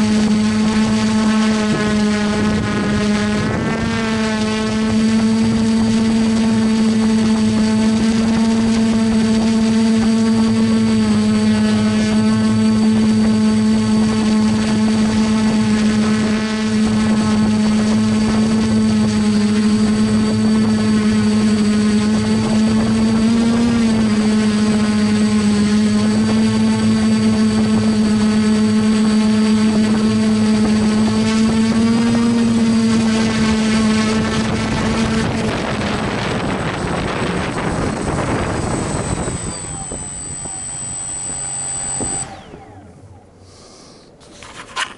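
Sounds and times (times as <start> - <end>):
drone motors whining: 0.0 - 44.9.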